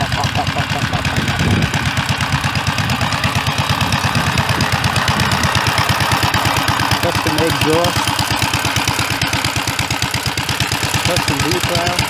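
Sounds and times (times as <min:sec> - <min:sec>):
tractor engine idling with exhaust pops: 0:00.0 - 0:12.0.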